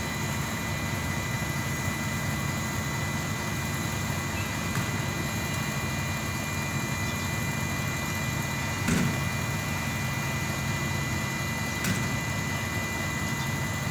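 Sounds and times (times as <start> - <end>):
engine idling with whine: 0.0 - 13.9.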